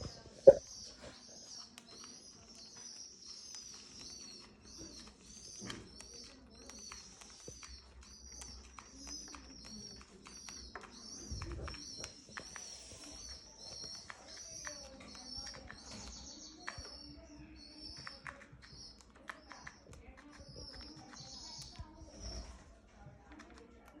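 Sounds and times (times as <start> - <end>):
cockatiels chirping: 0.0 - 22.7
pecking clicks: 1.5 - 22.0, 23.0 - 24.0.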